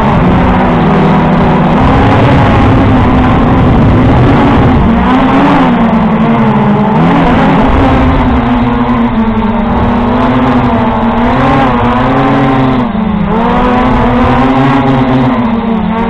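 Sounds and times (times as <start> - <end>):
drone propellers buzzing: 0.0 - 16.0.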